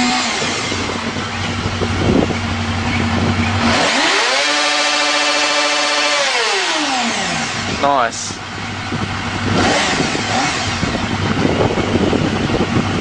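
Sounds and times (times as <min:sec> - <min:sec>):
motorcycle engine revving hard: 0:00.0 - 0:13.0.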